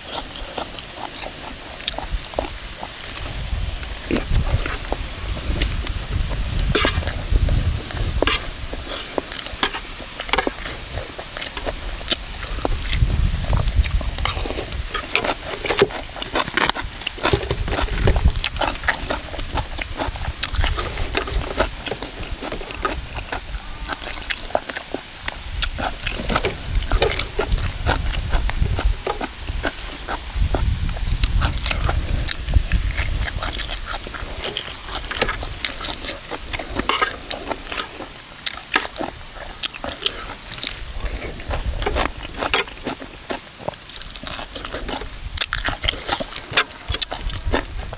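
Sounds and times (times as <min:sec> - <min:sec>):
chewing and crunching: 0:00.0 - 0:47.9
wind rumbling on microphone: 0:00.0 - 0:47.9.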